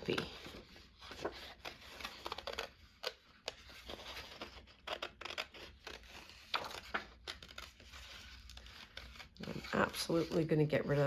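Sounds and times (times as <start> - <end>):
paper snipping and rustling: 0.0 - 11.0.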